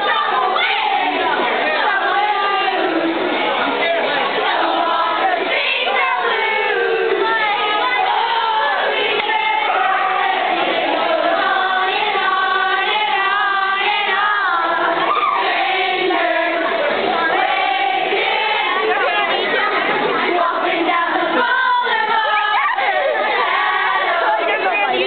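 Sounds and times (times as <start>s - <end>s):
young voices singing together: 0.0s - 25.0s.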